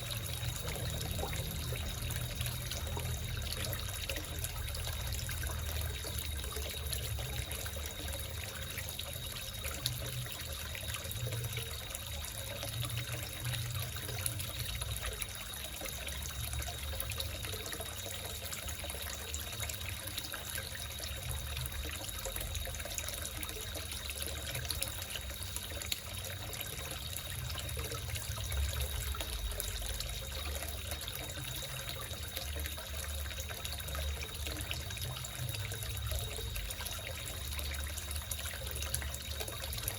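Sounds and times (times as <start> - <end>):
thin high tone: 0.0 - 39.9
water trickling into pond: 0.0 - 39.9.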